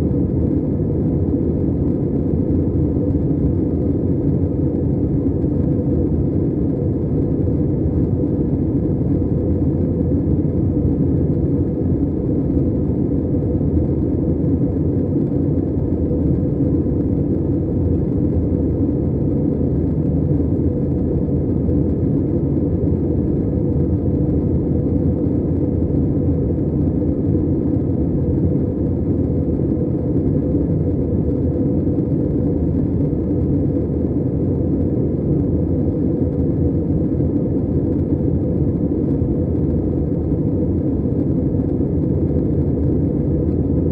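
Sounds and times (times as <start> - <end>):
jet engine rumble in cabin: 0.0 - 43.9.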